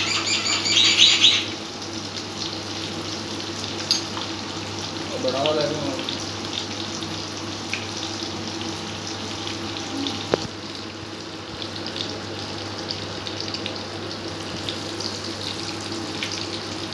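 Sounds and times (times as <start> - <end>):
food sizzling in hot oil: 0.0 - 16.9.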